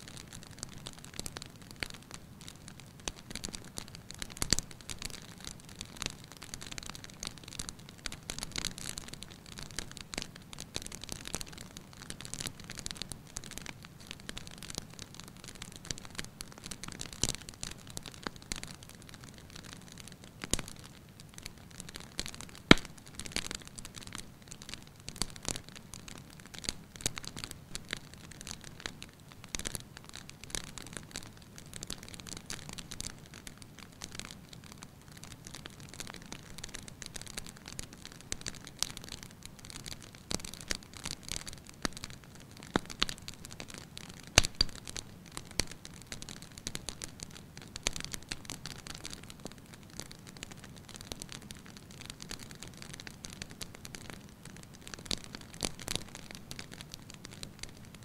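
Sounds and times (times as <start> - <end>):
soft fire hiss: 0.0 - 58.0
fire popping: 0.1 - 58.0
wood fire crackling: 0.1 - 58.0.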